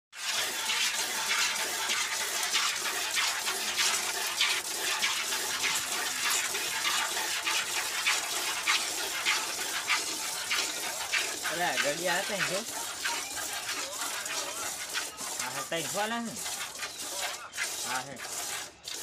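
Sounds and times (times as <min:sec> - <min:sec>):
milk squirting into bucket: 0:00.1 - 0:19.0.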